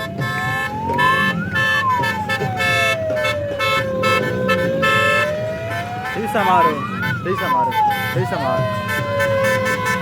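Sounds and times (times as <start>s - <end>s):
siren wailing: 0.0s - 10.0s
vehicle horns honking: 0.0s - 10.0s.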